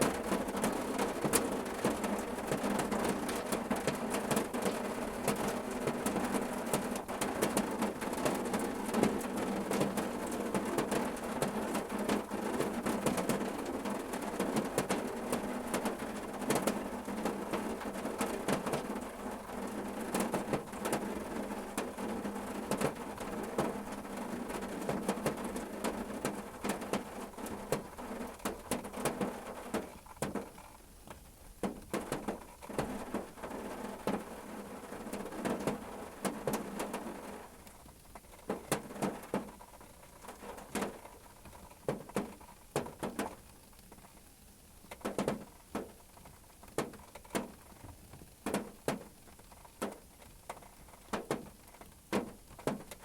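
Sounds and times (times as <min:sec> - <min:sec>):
rain pattering on car roof: 0:00.0 - 0:53.0.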